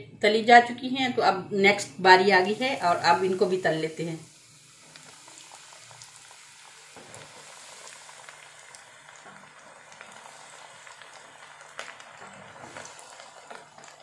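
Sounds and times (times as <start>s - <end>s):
deep-frying sizzle with crackles: 2.1s - 14.0s.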